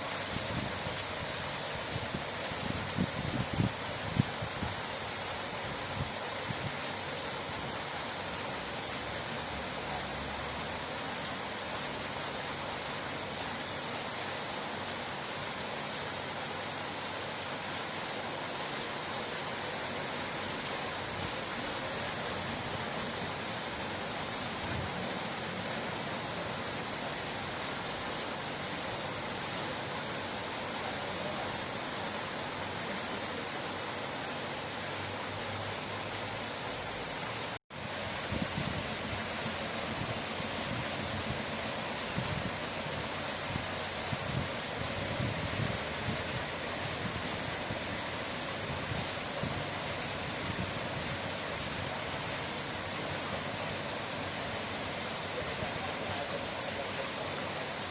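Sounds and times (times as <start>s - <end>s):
flowing water rushing: 0.0s - 57.9s.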